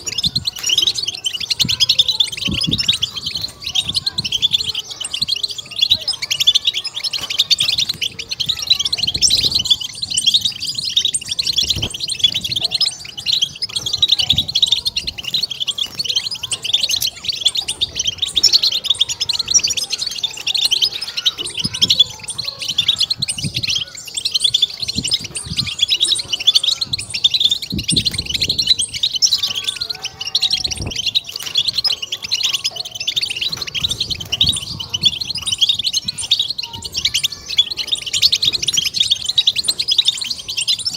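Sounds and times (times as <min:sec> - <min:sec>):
goldfinch twittering song: 0:00.0 - 0:40.9.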